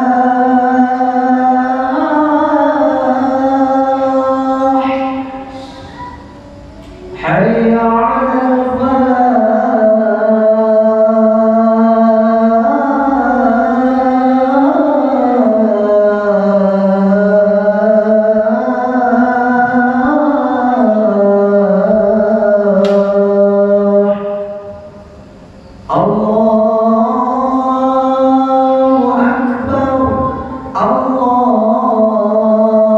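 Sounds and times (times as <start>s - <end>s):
man chanting into a microphone: 0.0s - 6.2s, 6.8s - 25.0s, 25.9s - 32.9s.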